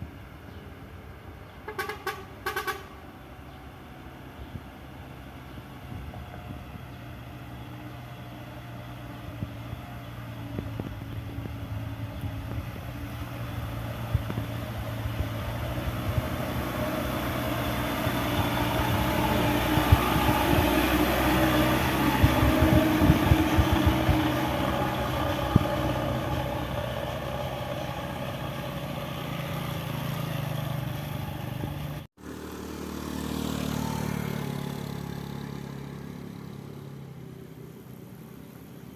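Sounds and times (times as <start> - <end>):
heavy truck engine labouring: 1.6 - 36.3.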